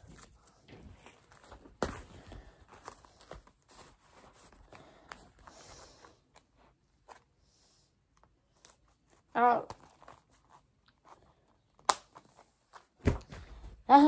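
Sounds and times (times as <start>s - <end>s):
wallet clicks and rustles: 0.0s - 7.3s, 8.2s - 13.4s.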